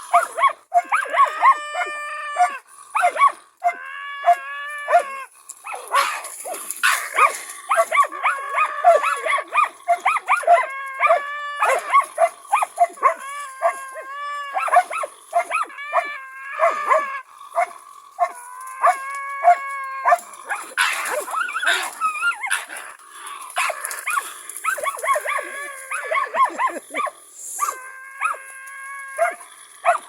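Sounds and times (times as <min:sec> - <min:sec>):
dogs barking: 0:00.0 - 0:28.4, 0:29.2 - 0:30.0
dogs snarling: 0:00.0 - 0:28.5, 0:29.1 - 0:30.0
dogs yelping: 0:00.0 - 0:30.0.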